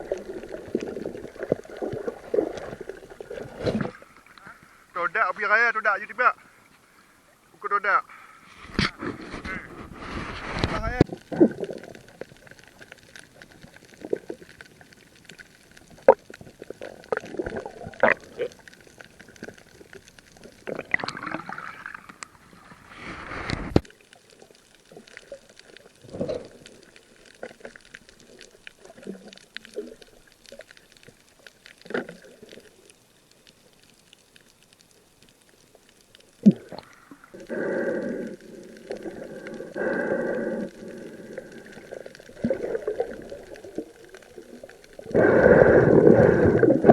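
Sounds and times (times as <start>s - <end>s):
muffled water sloshing and gurgling: 0.0s - 5.0s, 6.4s - 33.2s, 36.2s - 46.9s.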